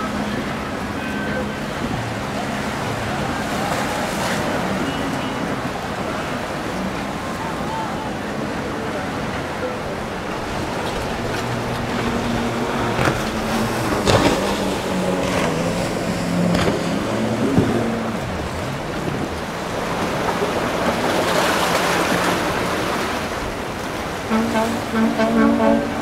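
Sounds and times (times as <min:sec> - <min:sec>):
motorboat engine running: 0:00.0 - 0:26.0
splashing waves: 0:00.0 - 0:26.0
wind: 0:00.0 - 0:26.0.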